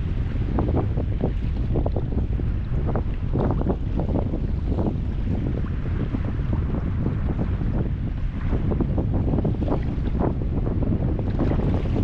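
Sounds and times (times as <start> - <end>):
water lapping against kayak: 0.0 - 12.0
wind buffeting microphone: 0.0 - 12.0.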